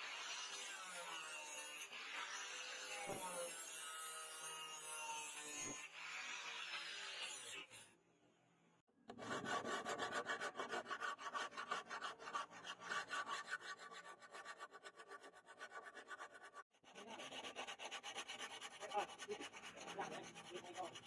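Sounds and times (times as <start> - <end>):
file scraping steel blade: 0.0 - 8.0, 9.1 - 21.0.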